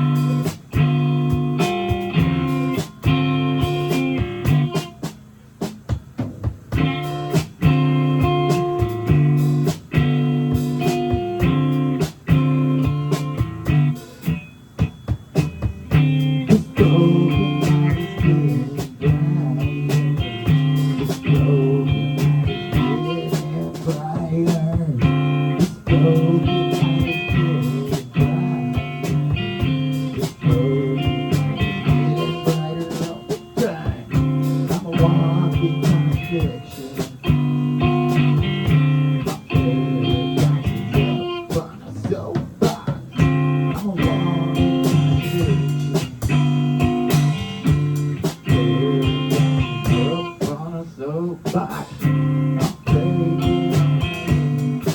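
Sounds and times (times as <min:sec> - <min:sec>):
live blues band with guitar: 0:00.0 - 0:54.9.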